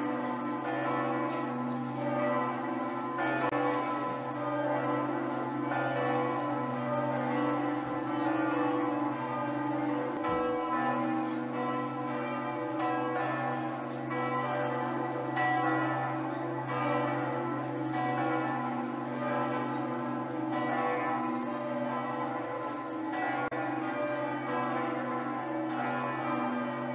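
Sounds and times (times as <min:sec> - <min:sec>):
bells ringing: 0:00.0 - 0:26.9.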